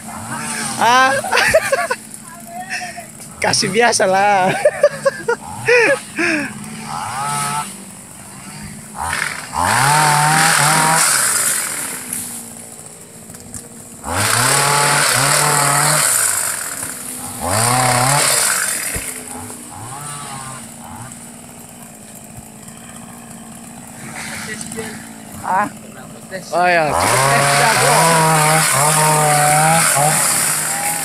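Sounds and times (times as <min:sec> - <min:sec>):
small engine idling and revving: 0:00.0 - 0:31.0.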